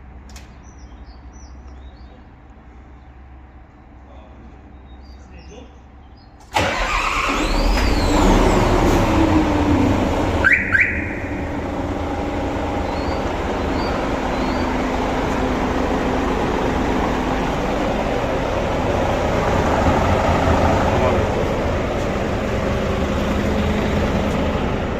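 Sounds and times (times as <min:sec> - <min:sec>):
diesel truck engine idling: 0:00.0 - 0:24.9.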